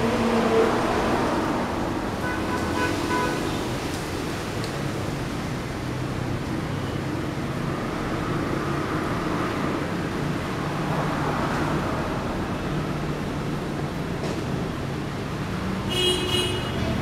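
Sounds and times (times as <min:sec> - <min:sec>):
traffic hiss on wet road: 0:00.0 - 0:17.0.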